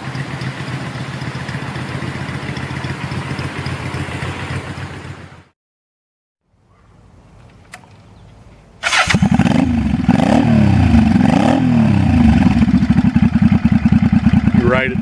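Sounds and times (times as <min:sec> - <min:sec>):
motorcycle engine starting and idling: 0:00.0 - 0:05.4, 0:07.3 - 0:15.0.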